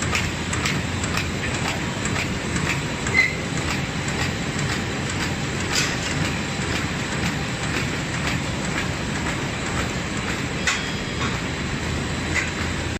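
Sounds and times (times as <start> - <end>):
sharp machine clicks: 0.0 - 11.5
bag cutting machine clattering: 0.0 - 12.9.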